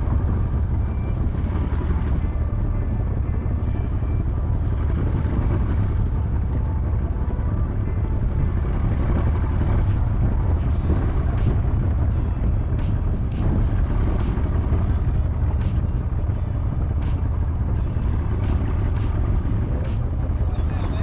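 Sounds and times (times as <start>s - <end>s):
outboard motor droning: 0.0s - 21.0s.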